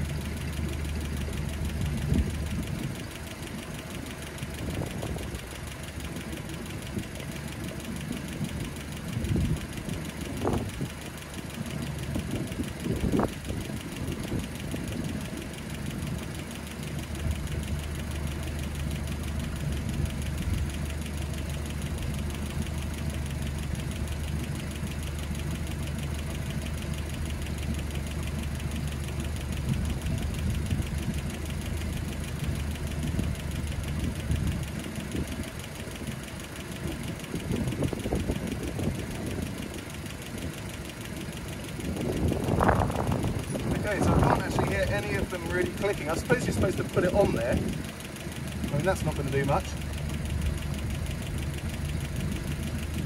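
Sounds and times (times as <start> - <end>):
car engine idling: 0.0 - 53.0
valvetrain clicking: 0.0 - 53.0.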